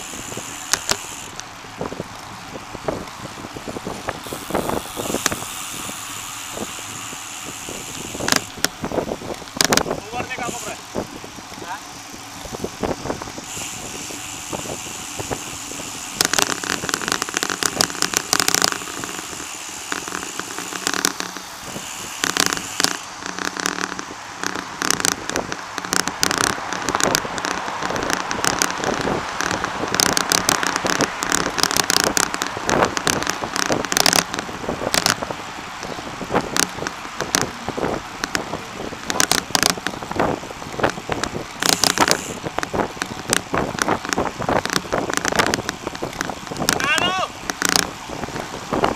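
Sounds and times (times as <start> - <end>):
bicycle rattling clicks: 0.0 - 48.9
tyres and wind rushing: 0.0 - 48.9.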